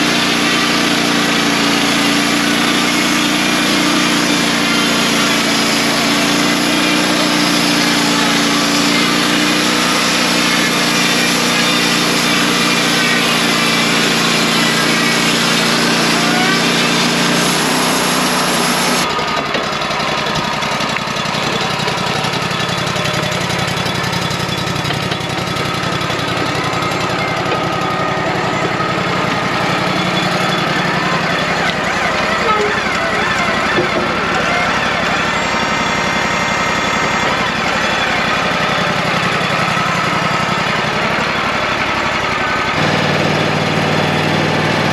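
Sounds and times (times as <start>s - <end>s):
bandsaw sawmill running: 0.0s - 44.9s.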